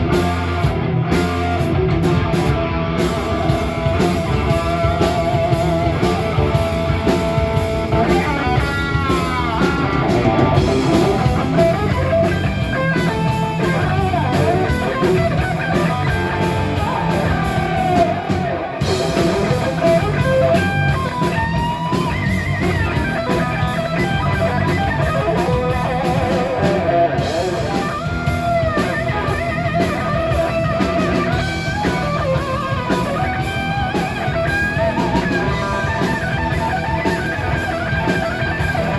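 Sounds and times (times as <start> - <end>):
bass guitar: 0.0 - 38.9
distorted electric guitar solo: 0.0 - 38.9
drums: 0.0 - 38.9.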